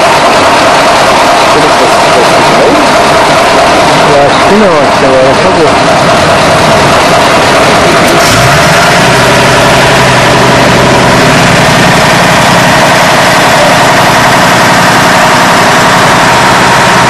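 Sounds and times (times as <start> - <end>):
fire truck diesel engine running: 0.0 - 17.0.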